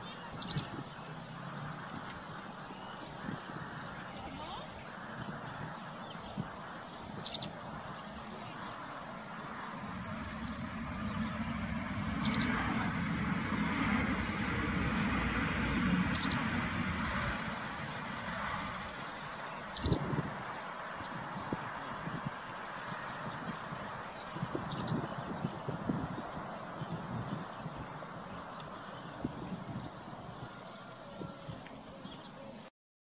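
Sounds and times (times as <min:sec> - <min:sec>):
bird chirping: 0:00.0 - 0:15.1, 0:16.0 - 0:32.7
low rushing background noise: 0:00.0 - 0:32.7.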